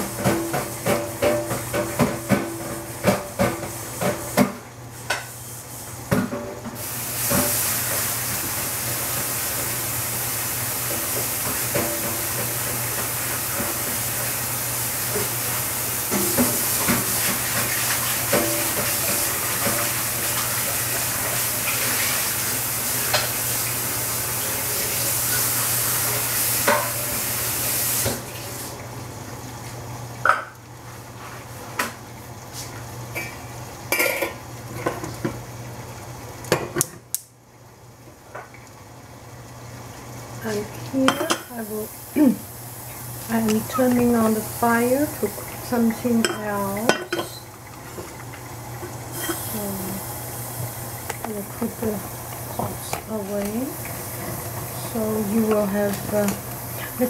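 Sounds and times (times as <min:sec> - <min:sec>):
food sizzling with crackles: 0:00.0 - 0:57.0.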